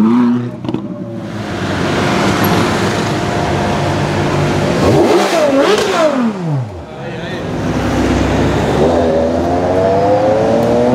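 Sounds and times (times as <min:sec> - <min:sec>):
sports car engine at low revs: 0:00.0 - 0:10.9
street traffic: 0:00.0 - 0:10.9.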